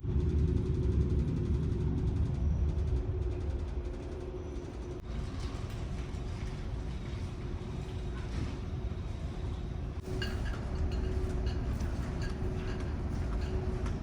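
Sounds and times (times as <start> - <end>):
ferry engines droning: 0.0 - 14.0.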